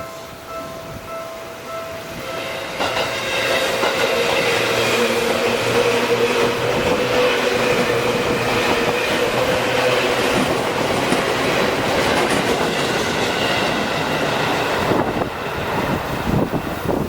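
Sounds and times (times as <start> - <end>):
electric train passing: 0.0 - 17.0
train wheels clattering on rails: 2.2 - 17.0.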